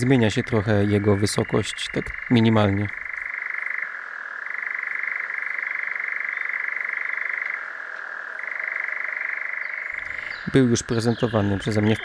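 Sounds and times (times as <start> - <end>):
nightjar churring trill: 0.0 - 12.0.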